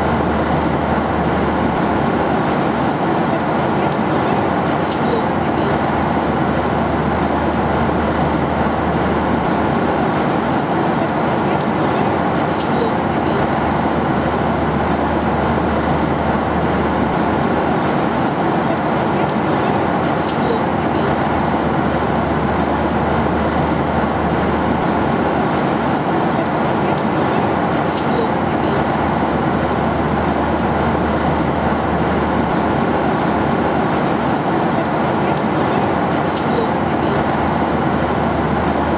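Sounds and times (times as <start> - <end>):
low engine hum: 0.0 - 38.9.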